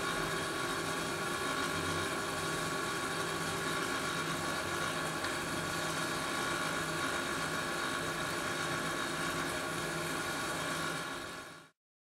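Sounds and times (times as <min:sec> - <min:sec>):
steady mechanical hum: 0:00.0 - 0:11.7.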